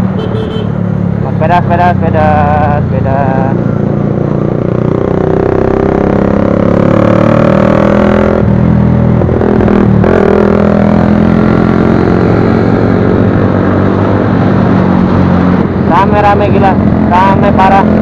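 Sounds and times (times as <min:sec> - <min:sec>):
motorcycle engine running: 0:03.1 - 0:18.0.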